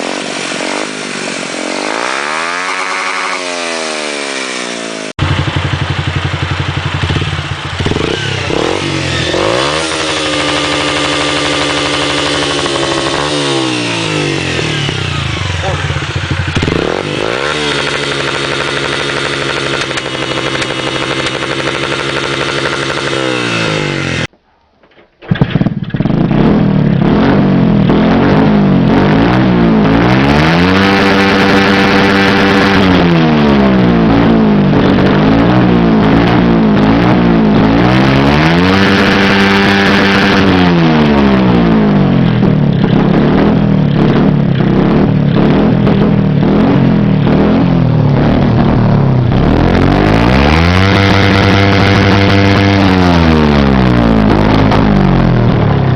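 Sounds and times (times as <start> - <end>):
motorcycle engine at high revs: 0.0 - 24.3, 25.3 - 55.9
motorcycle idling and revving: 0.0 - 24.4, 25.2 - 55.9.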